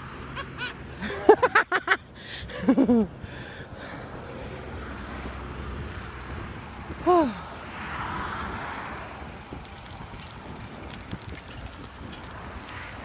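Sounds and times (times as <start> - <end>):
passing vehicles: 0.0 - 13.0.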